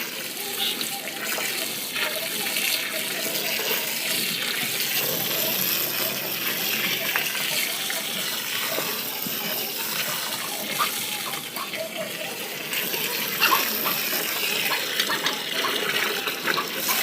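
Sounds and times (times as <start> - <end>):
water gushing: 0.0 - 17.0.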